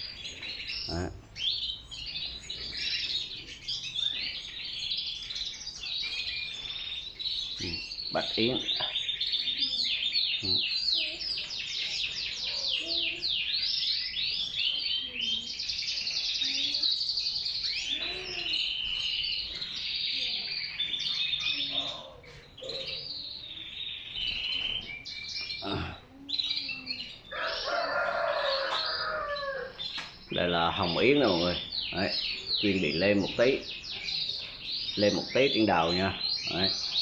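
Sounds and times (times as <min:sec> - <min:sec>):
canaries singing: 0:00.0 - 0:37.0.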